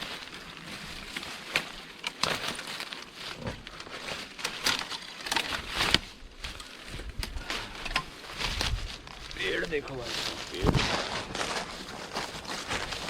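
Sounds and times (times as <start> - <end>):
footsteps crunching on dry ground: 0.0 - 4.4, 5.6 - 13.0.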